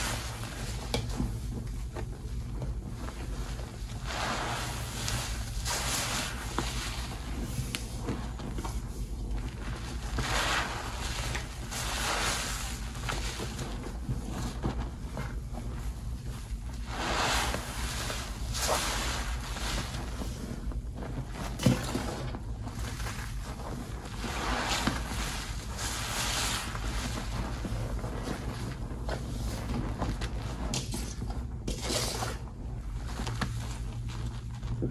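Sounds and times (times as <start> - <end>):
sponge squelching in foam: 0.0 - 34.9.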